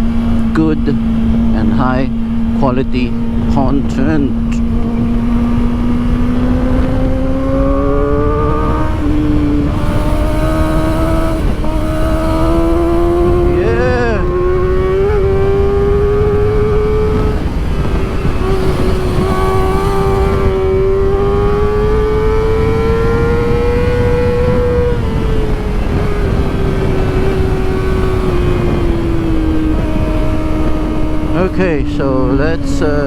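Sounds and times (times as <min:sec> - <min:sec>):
motorcycle engine at high revs: 0:00.0 - 0:33.0
wind noise: 0:00.0 - 0:33.0.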